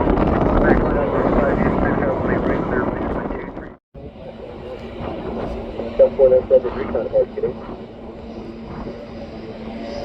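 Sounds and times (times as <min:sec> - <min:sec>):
constant low hum: 0:00.0 - 0:10.0
jet aircraft drone: 0:00.0 - 0:10.0.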